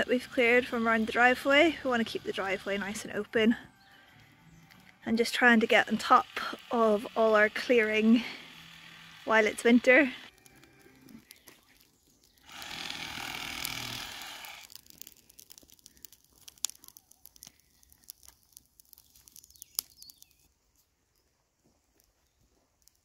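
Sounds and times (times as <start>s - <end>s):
brush fire crackling and popping: 0.0s - 23.0s.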